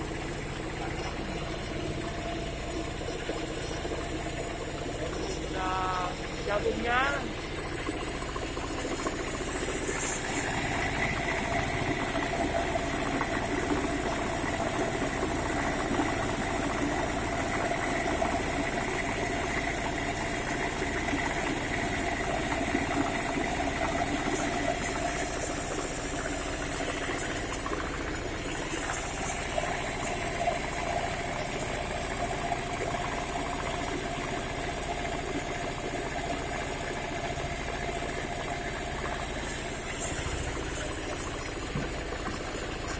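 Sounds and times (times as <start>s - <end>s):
feed mill grinding corn: 0.0s - 42.9s.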